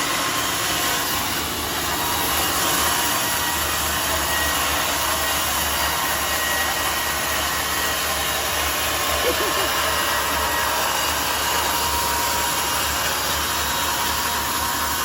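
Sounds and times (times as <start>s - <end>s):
sawmill saw and motor: 0.0s - 15.0s.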